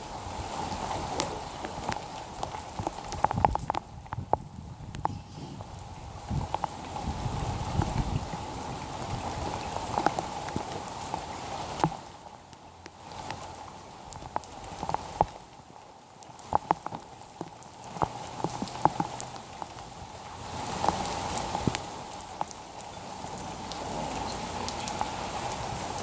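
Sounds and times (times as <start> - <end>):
heavy rain: 0.0 - 26.0
raindrops tapping close by: 0.0 - 26.0.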